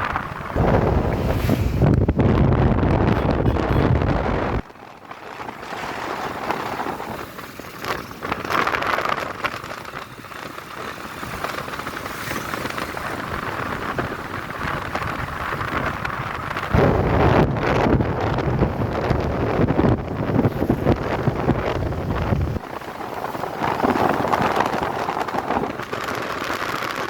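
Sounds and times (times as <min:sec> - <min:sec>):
vehicles passing: 0:00.0 - 0:27.0
wind rush on microphone: 0:00.0 - 0:27.0.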